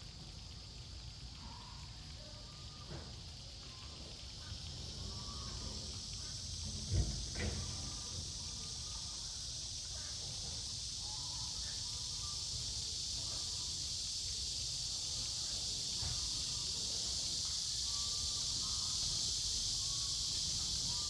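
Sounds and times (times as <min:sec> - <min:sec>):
insects chirring: 0:00.0 - 0:21.0
faint distant calls: 0:01.4 - 0:13.7, 0:15.0 - 0:21.0.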